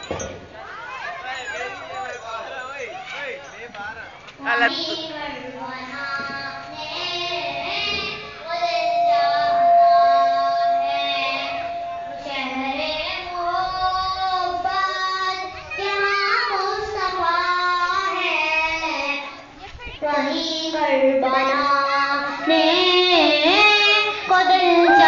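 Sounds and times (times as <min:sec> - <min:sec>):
boy singing: 0:04.6 - 0:25.0.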